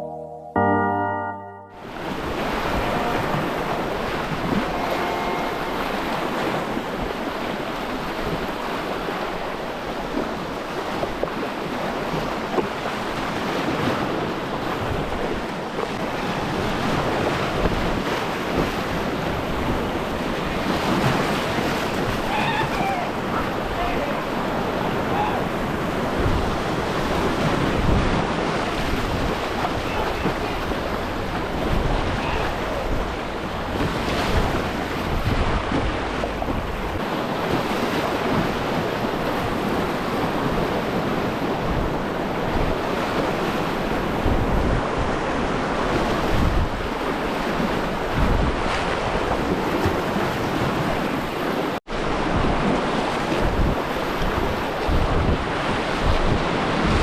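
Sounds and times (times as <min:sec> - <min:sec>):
rushing river whitewater: 0:01.8 - 0:57.0
wind buffeting microphone: 0:01.8 - 0:57.0.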